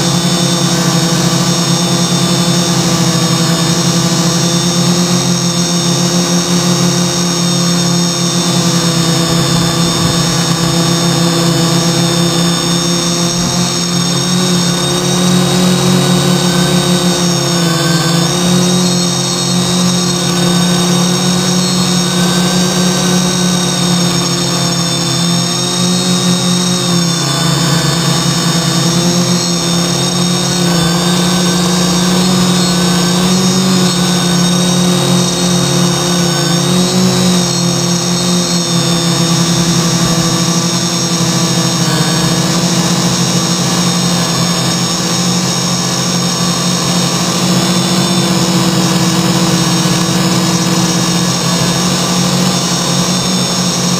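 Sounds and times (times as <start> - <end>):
multirotor drone propellers droning: 0.0 - 53.9.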